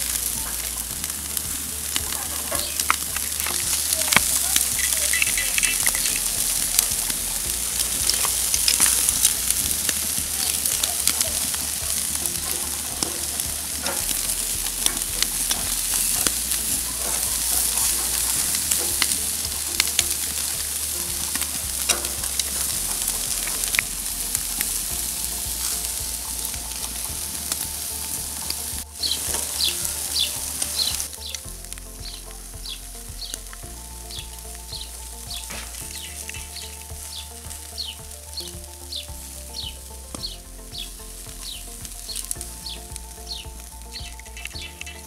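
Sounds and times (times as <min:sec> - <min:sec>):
meat sizzling on a grill: 0:00.0 - 0:45.0.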